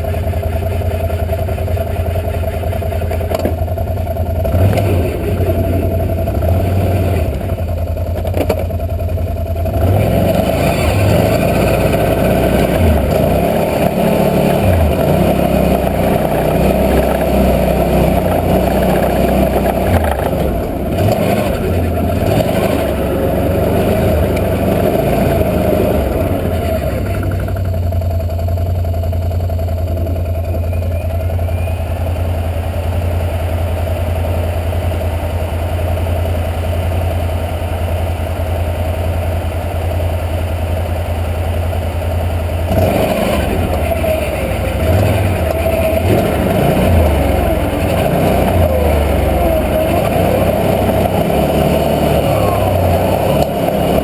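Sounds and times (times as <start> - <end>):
atv engine idling and revving: 0.0 - 54.0.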